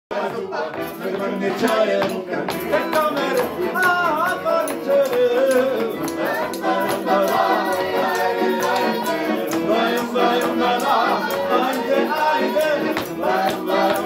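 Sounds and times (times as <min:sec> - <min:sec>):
accordion: 0:00.1 - 0:14.0
man singing: 0:00.3 - 0:14.0.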